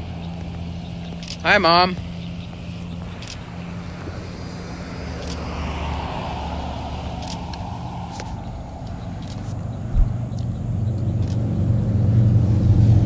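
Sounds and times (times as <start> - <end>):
steady low hum: 0.0 - 13.0
vehicle passing by: 0.0 - 13.0.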